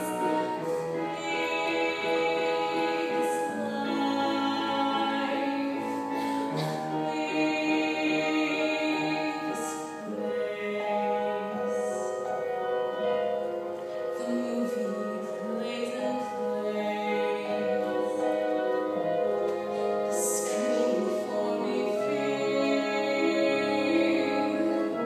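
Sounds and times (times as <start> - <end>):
musical accompaniment: 0.0 - 25.0
person singing long notes: 0.0 - 25.0.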